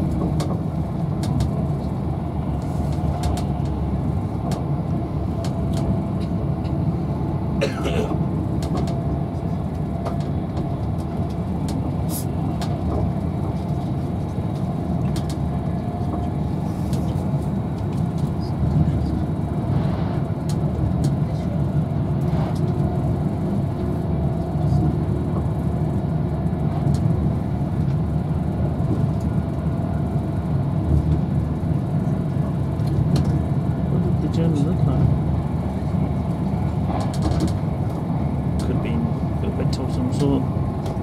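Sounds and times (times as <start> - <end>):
train interior rumble: 0.0 - 41.0.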